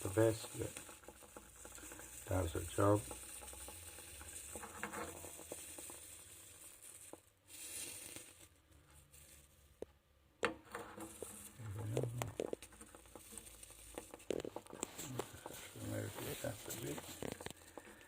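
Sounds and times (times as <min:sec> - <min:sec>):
water sizzling and bubbling: 0:00.0 - 0:09.9, 0:10.6 - 0:18.0.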